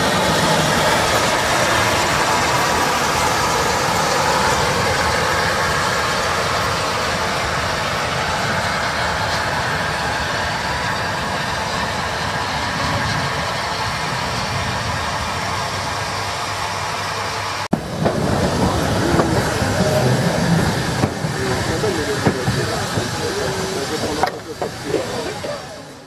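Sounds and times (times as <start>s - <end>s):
steam tram running along track: 0.0s - 26.0s.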